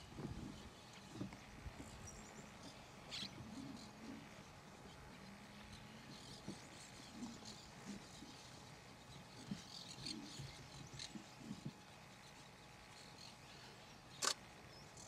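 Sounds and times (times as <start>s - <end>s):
bird chirp: 0.0s - 15.0s.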